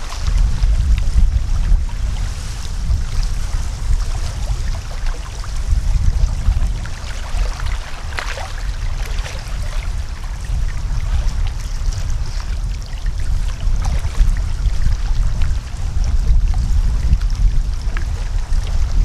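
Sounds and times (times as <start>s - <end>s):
steady low rumble: 0.0s - 19.0s
water trickling and splashing: 0.0s - 19.0s.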